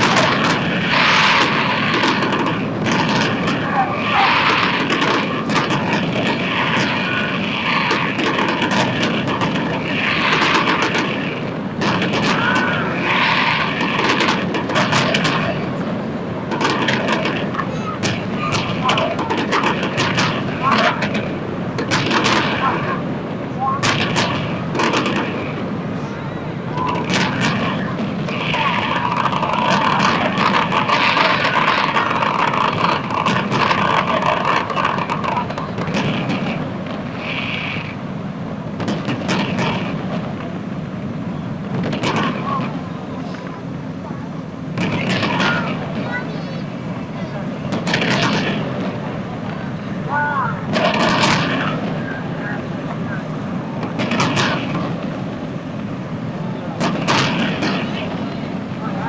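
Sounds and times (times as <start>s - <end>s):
fireworks bangs and crackling: 0.0s - 59.0s
steady low rumble: 0.0s - 59.0s.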